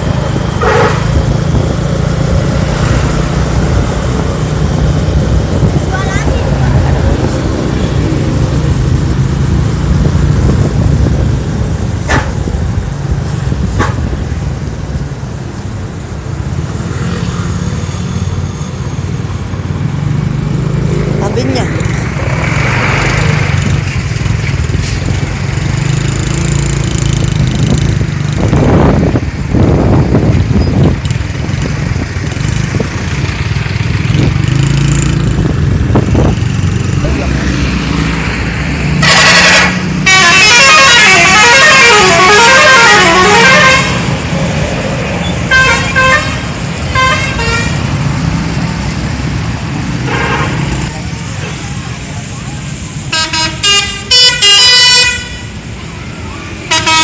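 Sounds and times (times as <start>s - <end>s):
diesel bus engine rumbling: 0.0s - 16.9s, 17.5s - 57.0s
road traffic: 0.0s - 57.0s.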